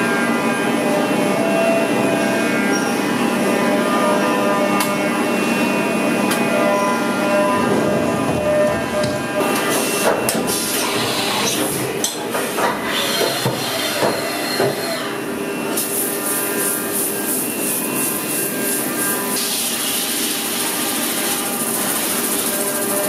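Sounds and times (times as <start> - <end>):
machine whine: 0.0 - 23.0.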